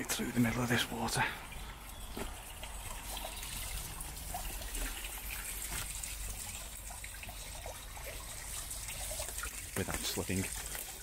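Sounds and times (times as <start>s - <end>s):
brook trickling: 0.0s - 11.0s.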